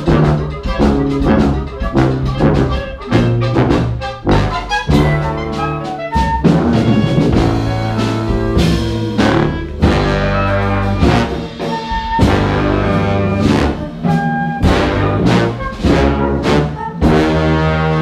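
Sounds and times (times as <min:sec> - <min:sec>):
jazz big band playing: 0:00.0 - 0:18.0.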